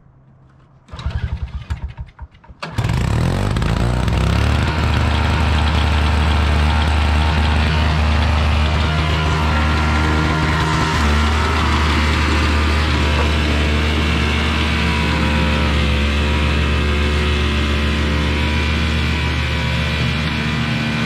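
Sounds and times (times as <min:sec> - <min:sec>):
small gas engine running: 0:00.9 - 0:21.0.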